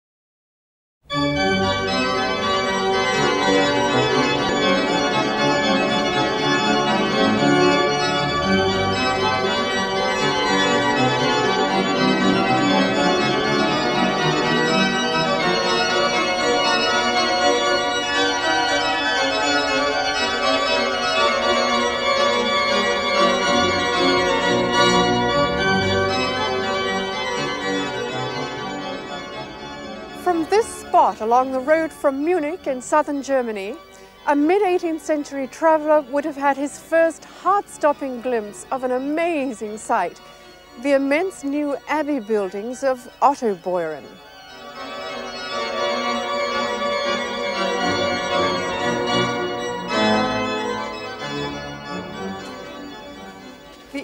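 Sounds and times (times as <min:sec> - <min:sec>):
pipe organ playing: 0:01.1 - 0:54.0.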